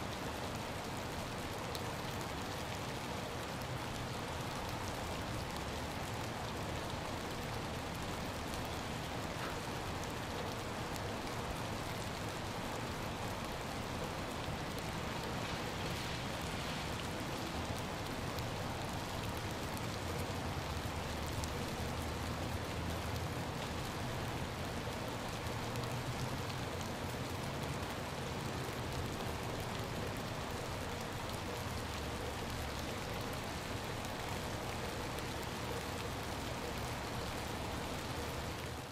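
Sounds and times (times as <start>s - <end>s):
ice rain pattering: 0.0s - 38.9s.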